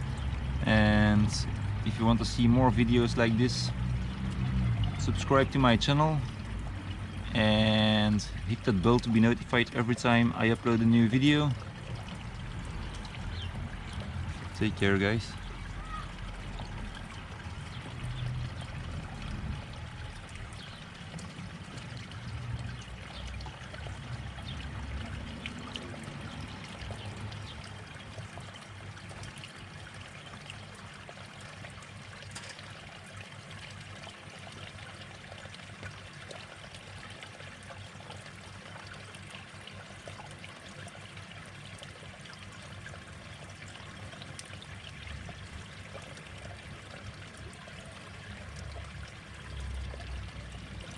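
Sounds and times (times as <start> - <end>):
water trickling into pond: 0.0 - 50.9.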